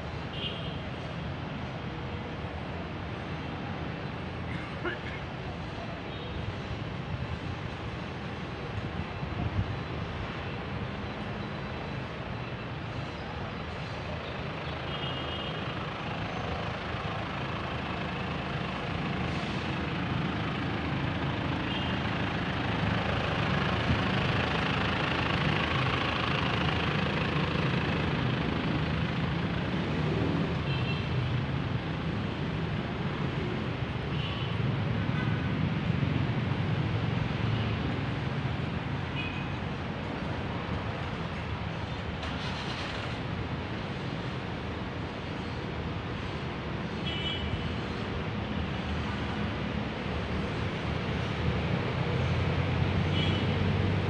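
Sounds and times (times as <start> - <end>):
city traffic rumble: 0.0 - 54.0.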